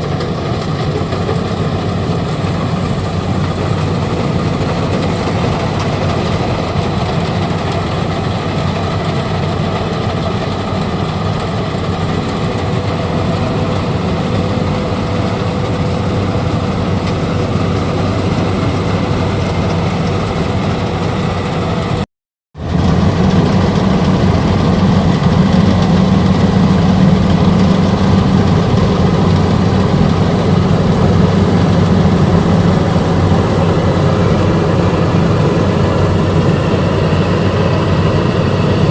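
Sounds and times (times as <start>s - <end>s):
combine harvester engine running: 0.0s - 22.0s, 22.6s - 38.9s.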